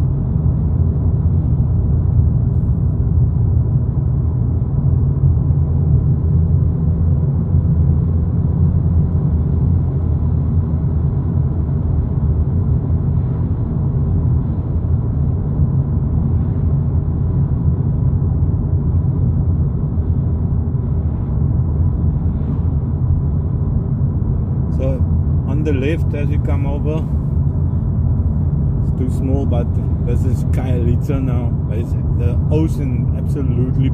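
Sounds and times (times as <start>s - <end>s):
car road and engine rumble: 0.0s - 33.9s.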